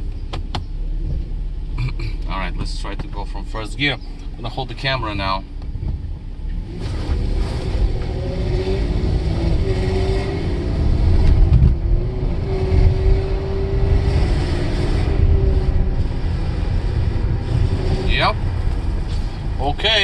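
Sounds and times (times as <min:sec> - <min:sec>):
car engine accelerating: 0:00.0 - 0:20.0
low road rumble: 0:00.0 - 0:20.0.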